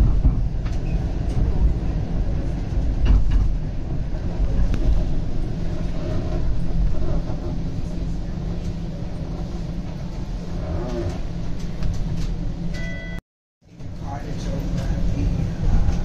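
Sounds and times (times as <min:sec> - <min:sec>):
streetcar rumble: 0:00.0 - 0:16.0.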